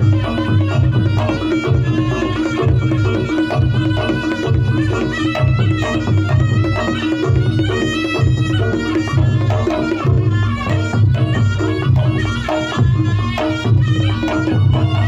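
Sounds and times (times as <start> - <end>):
hand drumming: 0.0 - 15.0
reedy wind melody: 0.0 - 15.0.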